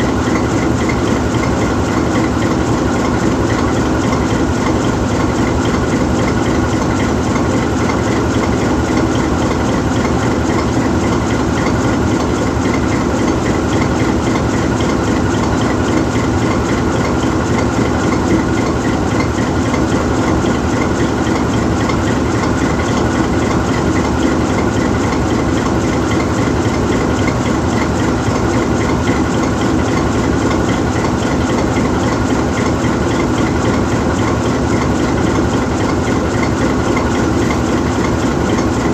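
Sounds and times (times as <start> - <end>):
diesel locomotive engine idling: 0.0 - 38.9.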